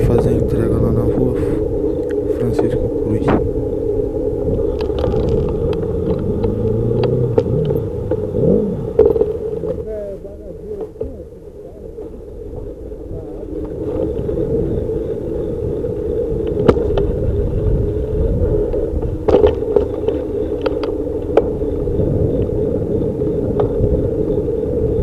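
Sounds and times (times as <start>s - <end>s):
bicycle rumble on street: 0.0s - 25.0s
wind noise: 0.0s - 25.0s.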